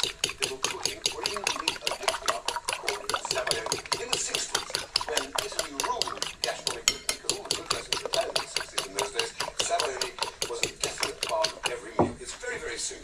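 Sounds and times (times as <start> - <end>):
fork beating eggs in bowl: 0.0 - 13.0.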